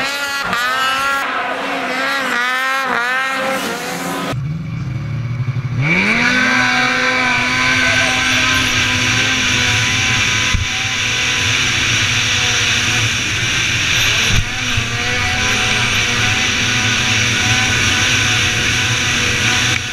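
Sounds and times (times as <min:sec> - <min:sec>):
snowmobile engine revving: 0:00.0 - 0:19.9.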